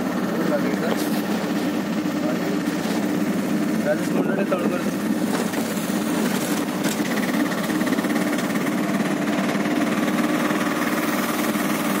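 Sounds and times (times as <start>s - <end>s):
vehicle engine drone with rattle: 0.0s - 12.0s.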